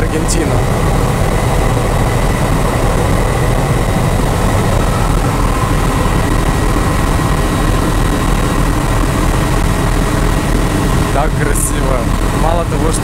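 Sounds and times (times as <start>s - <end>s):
faint high whine: 0.0s - 13.0s
helicopter engine and rotor drone: 0.0s - 13.0s.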